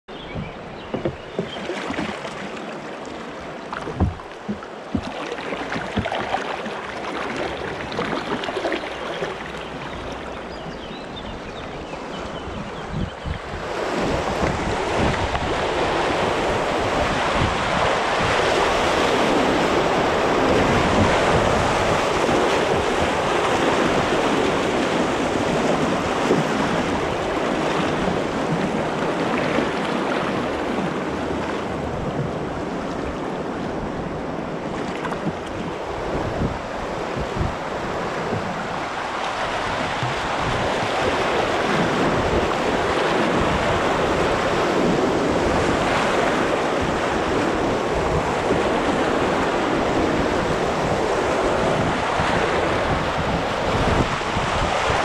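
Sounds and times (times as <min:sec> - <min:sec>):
wind rumbling on microphone: 0:00.1 - 0:55.0
rushing white water: 0:00.2 - 0:12.4, 0:13.5 - 0:55.0.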